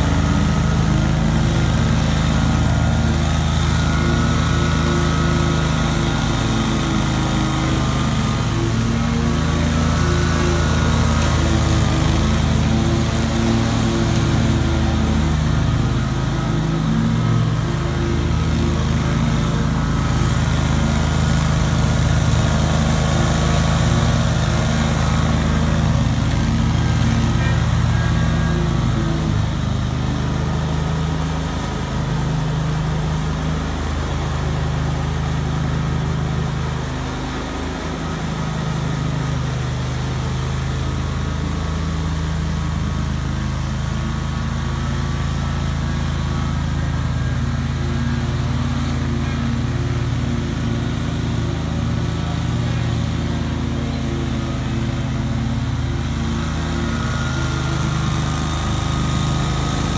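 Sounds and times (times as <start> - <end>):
mower blades cutting grass: 0.0 - 59.9
mower engine at full throttle: 0.0 - 59.9.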